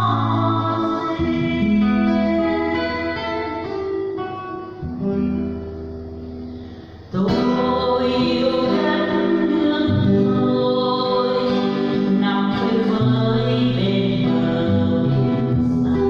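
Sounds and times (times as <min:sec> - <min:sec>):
woman singing a ballad: 0:00.0 - 0:04.3, 0:07.1 - 0:16.0
acoustic guitar: 0:00.0 - 0:16.0.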